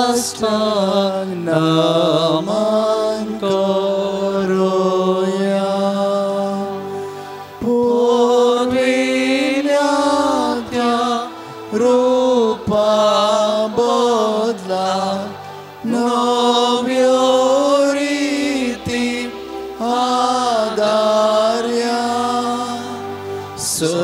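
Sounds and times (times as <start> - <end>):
person singing a hymn: 0.0 - 24.0
sustained accompaniment: 0.0 - 24.0.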